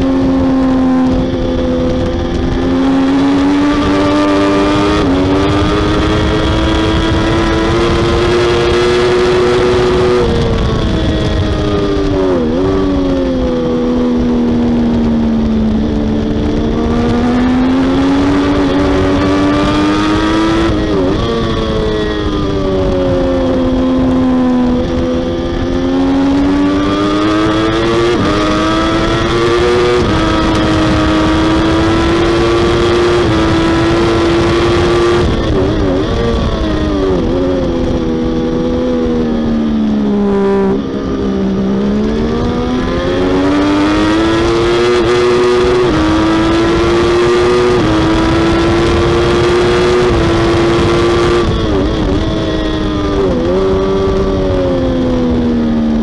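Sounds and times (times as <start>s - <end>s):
gear changes: 0.0s - 56.0s
motorcycle engine at high revs: 0.0s - 56.0s
wind rush: 0.0s - 56.0s.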